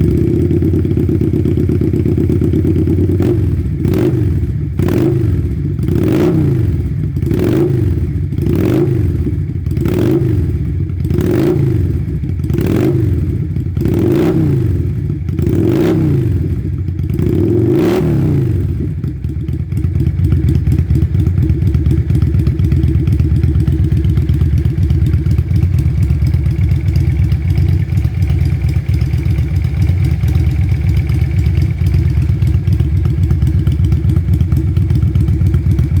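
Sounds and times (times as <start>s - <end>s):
motorcycle engine revving and idling: 0.0s - 36.0s.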